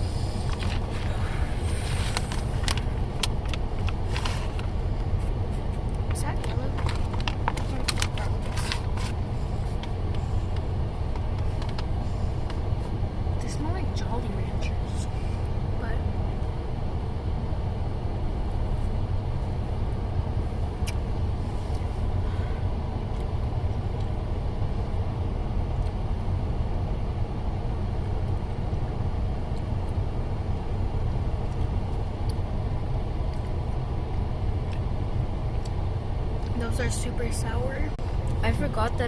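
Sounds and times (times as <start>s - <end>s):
vehicle road noise rumble: 0.0s - 39.0s.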